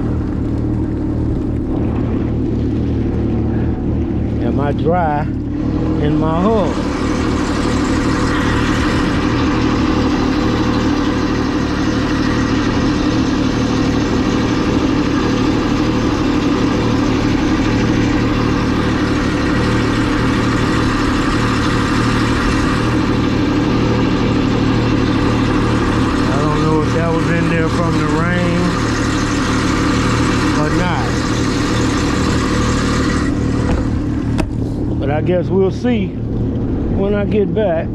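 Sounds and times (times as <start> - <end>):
boat motor running: 0.0 - 37.9
hull and water noise: 0.0 - 37.9.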